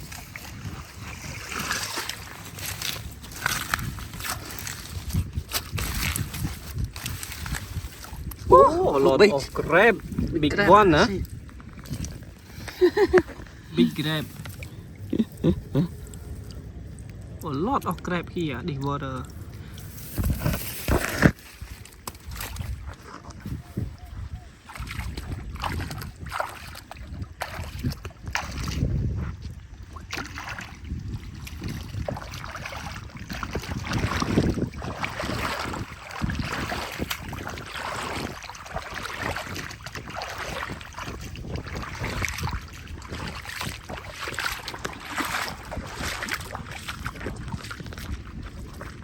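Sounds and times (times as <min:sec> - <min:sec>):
water sloshing and splashing: 0:00.0 - 0:49.0
wind buffeting microphone: 0:00.0 - 0:49.0.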